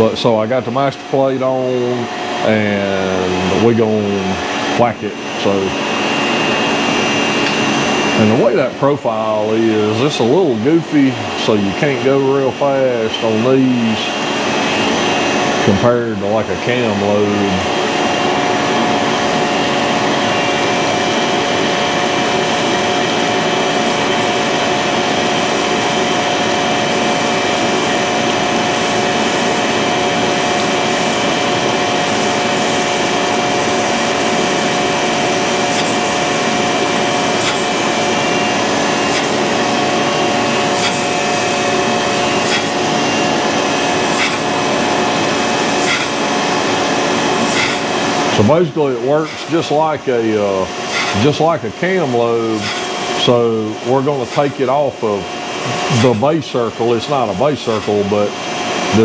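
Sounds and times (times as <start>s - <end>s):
coolant hiss: 0.0s - 59.0s
grinding machine whine: 0.0s - 59.0s.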